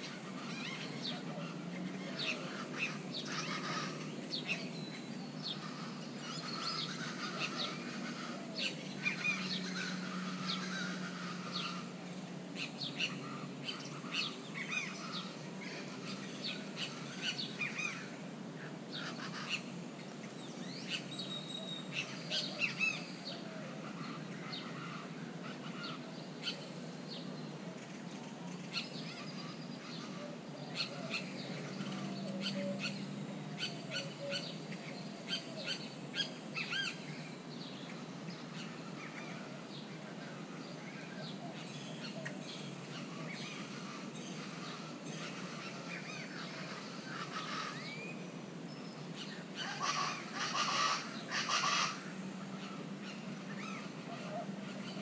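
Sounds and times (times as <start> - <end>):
grackles calling: 0.0 - 12.0, 12.6 - 27.2, 28.7 - 37.3, 37.9 - 48.2, 49.2 - 55.0.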